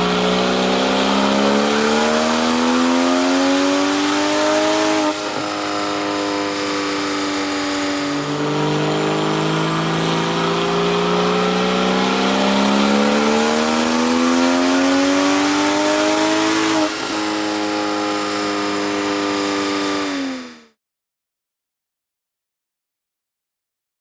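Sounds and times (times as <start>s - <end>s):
car engine revving on dyno: 0.0s - 20.8s.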